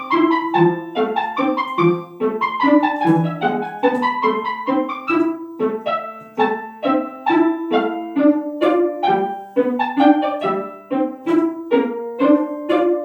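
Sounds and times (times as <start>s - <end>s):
fast piano-like notes: 0.0s - 13.0s.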